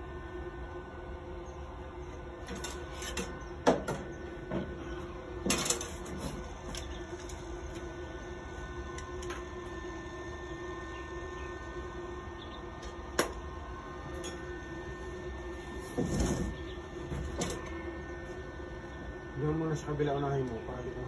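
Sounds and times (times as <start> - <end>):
arc welding hum and hiss: 0.0 - 21.0.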